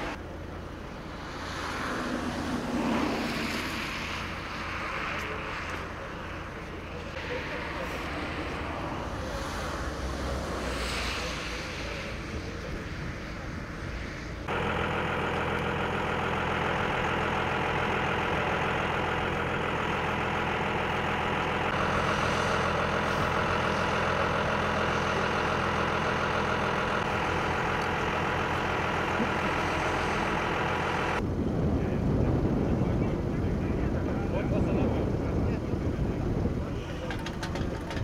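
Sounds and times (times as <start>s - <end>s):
heavy vehicle engine idling: 0.0s - 38.0s.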